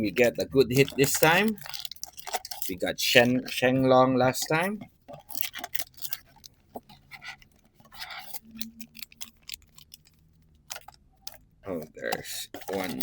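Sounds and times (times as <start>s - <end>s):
foil wrappers crinkling: 0.0s - 3.8s, 4.4s - 13.0s.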